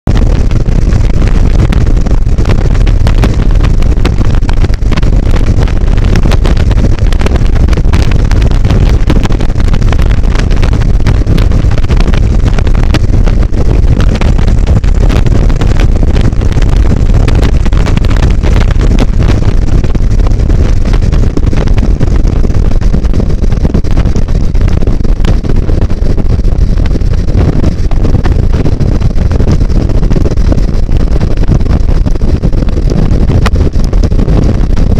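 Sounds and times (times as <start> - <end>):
wind buffeting microphone: 0.0 - 34.9
airplane engine running: 0.1 - 34.9.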